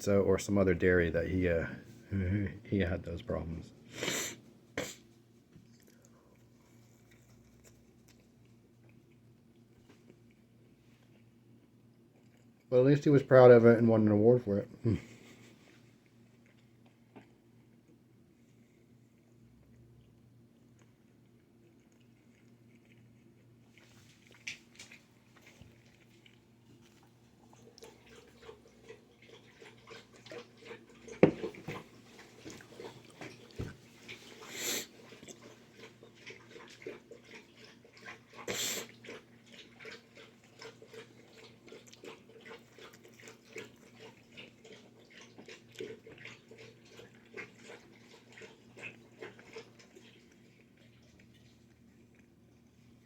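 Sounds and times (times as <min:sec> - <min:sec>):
person chewing food: 0:03.8 - 0:12.7, 0:14.8 - 0:53.0.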